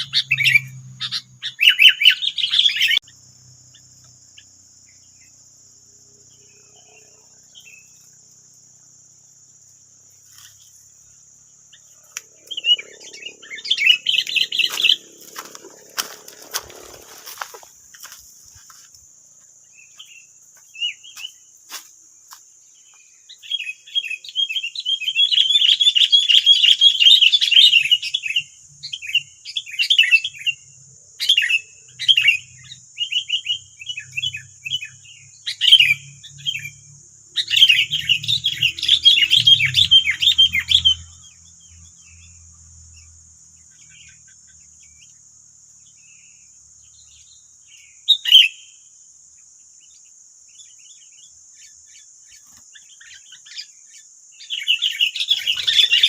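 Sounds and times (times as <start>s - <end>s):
birds chattering: 0.0s - 19.0s, 22.6s - 48.7s, 49.8s - 56.0s
high insect drone: 0.0s - 56.0s.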